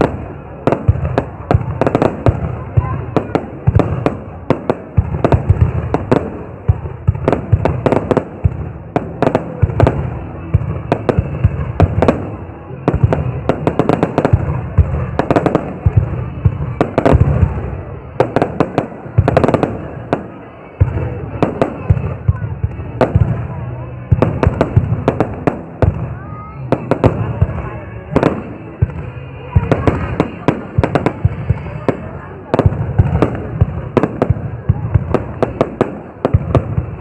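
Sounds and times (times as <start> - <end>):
fireworks bangs and cracks: 0.0 - 37.0.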